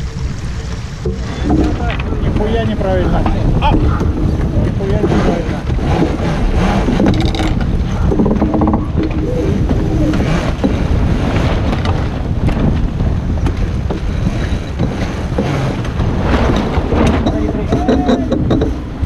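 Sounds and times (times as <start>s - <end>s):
water rushing past hull: 0.0s - 19.0s
wind buffeting microphone: 0.0s - 19.0s.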